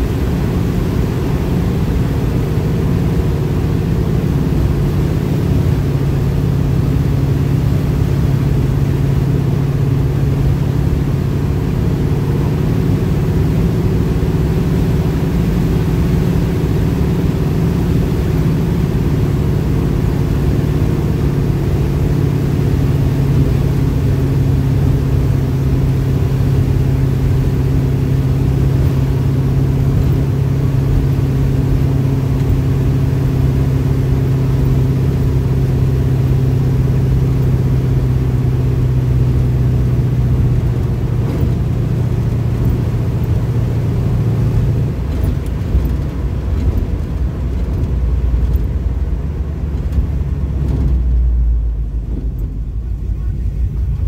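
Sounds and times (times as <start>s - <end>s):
car engine running: 0.0s - 54.0s
road and wind noise: 0.0s - 54.0s.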